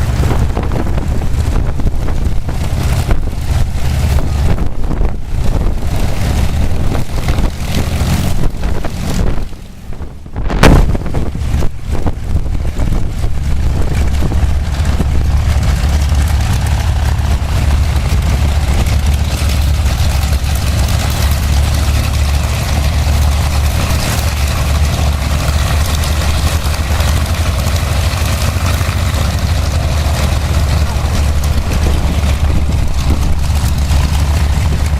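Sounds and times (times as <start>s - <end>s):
propeller aircraft engine drone: 0.0s - 34.9s.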